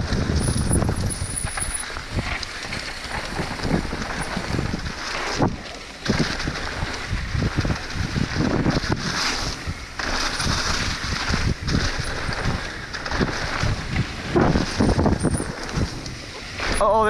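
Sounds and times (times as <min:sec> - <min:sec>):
bike rattling over bumps: 0:00.0 - 0:17.0
bike tyres rolling on dirt: 0:00.0 - 0:17.0
wind buffeting microphone: 0:00.0 - 0:17.0.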